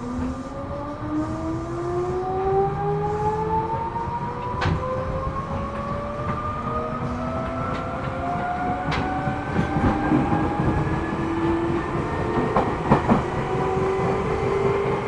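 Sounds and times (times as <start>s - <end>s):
low rumble of train wheels: 0.0s - 15.0s.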